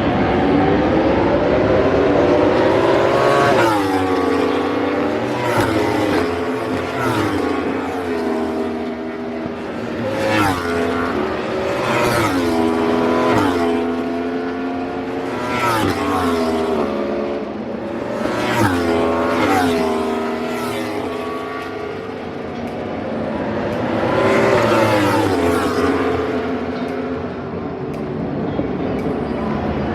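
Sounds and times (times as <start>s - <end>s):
racing motorcycle engines revving: 0.0s - 29.9s.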